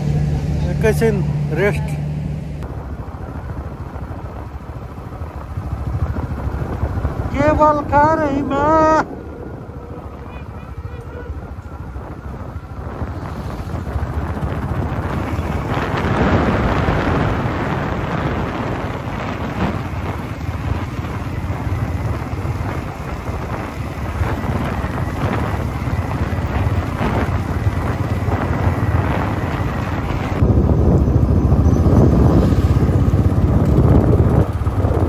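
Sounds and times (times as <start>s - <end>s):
motorcycle engine and road rumble: 0.0s - 35.0s
wind rushing over microphone: 0.0s - 35.0s.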